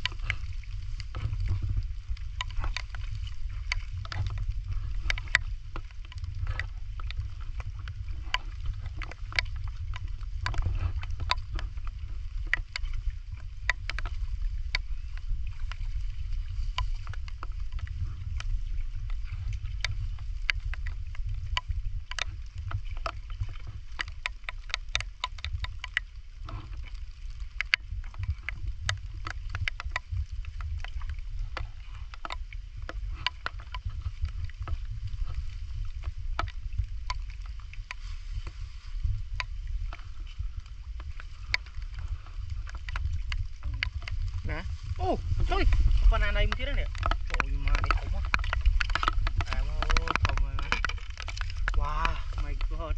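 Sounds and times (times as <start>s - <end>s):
rain dripping on water: 0.0s - 52.9s
steady low rumble: 0.0s - 52.9s.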